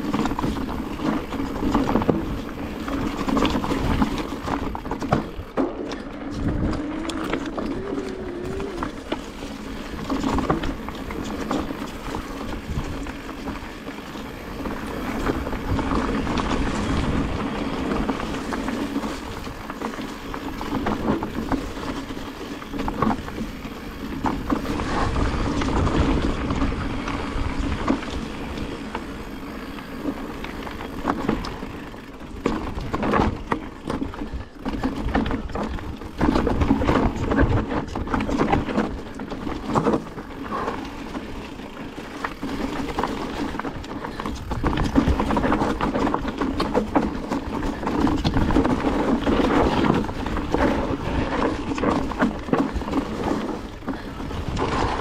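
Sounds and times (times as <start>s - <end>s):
bike rattling: 0.0s - 55.0s
bike tyres grinding over stones: 0.0s - 55.0s.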